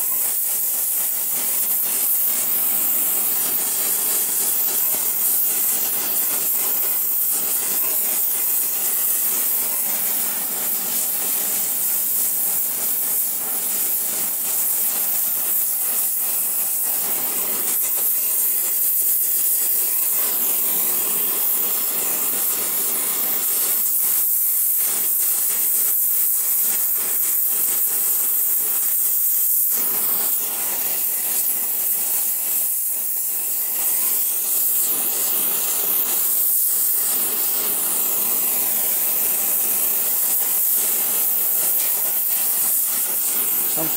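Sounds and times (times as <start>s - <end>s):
torch flame hissing: 0.0s - 43.9s.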